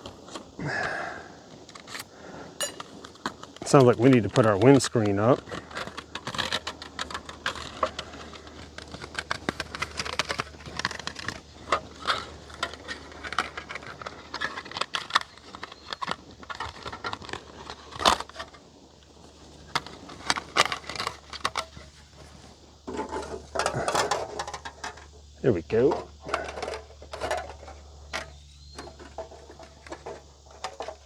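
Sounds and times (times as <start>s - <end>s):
windscreen clicking and rattling: 0.0s - 31.0s.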